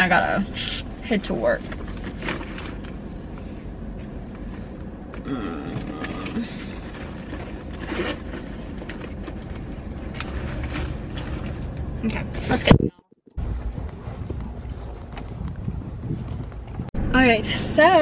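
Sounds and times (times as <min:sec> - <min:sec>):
steady low rumble: 0:00.0 - 0:18.0
rustles and clicks in car seat: 0:01.3 - 0:12.7, 0:13.4 - 0:17.0.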